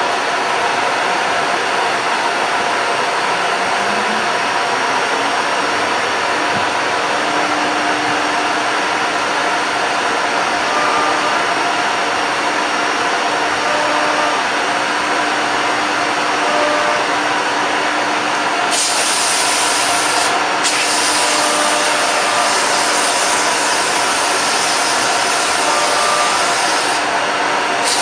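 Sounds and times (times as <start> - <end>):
cnc router running: 0.0 - 28.0.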